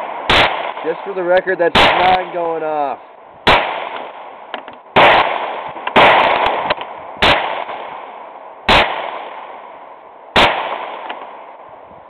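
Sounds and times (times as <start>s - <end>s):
pistol shots with echo: 0.0s - 11.6s.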